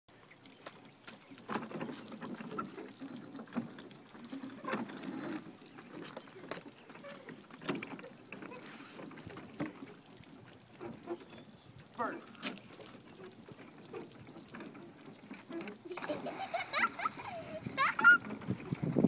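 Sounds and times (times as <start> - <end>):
water lapping around dock: 0.1 - 19.0.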